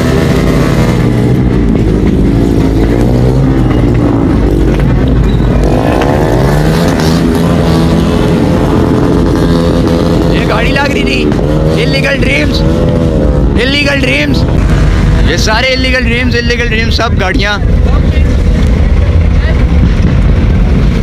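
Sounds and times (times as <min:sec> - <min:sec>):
car engines idling: 0:00.0 - 0:21.0
engine revving: 0:00.0 - 0:21.0.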